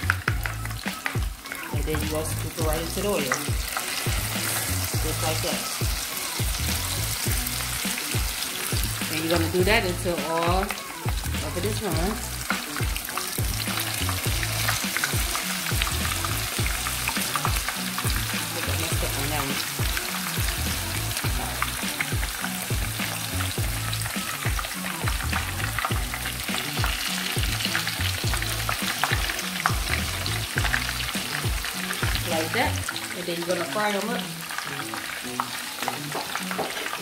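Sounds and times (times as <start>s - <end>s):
deep-frying crackle and sizzle: 0.0s - 37.0s
spoon stirring in oil: 0.2s - 33.0s.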